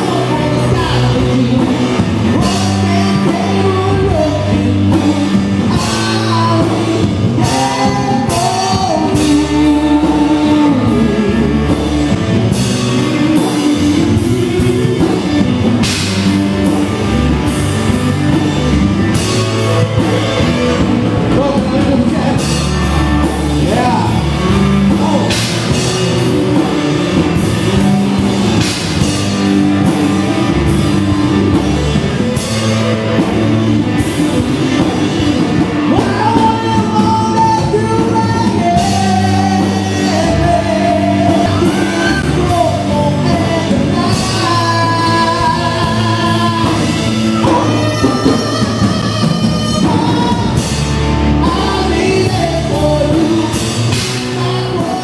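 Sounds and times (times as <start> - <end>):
person singing lead vocal: 0.0 - 55.0
rock band playing live: 0.0 - 55.0.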